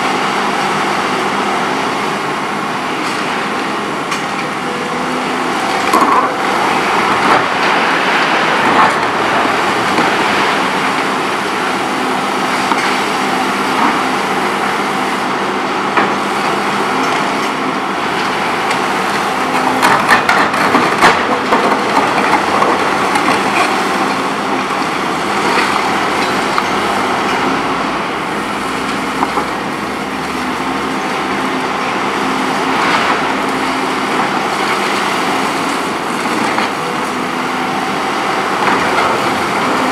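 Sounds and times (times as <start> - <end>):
excavator engine and hydraulics hum: 0.0 - 39.9.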